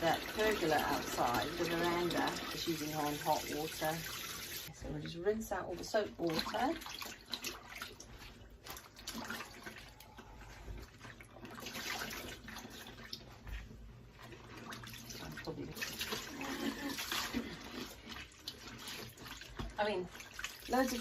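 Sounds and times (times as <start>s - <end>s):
water splashing in a sink: 0.0s - 21.0s.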